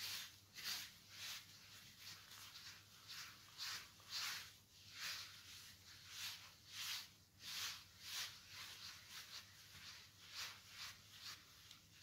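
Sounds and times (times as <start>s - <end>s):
gloved hands kneading damp powder: 0.0s - 12.0s
soft rustling scrunch: 0.0s - 12.0s.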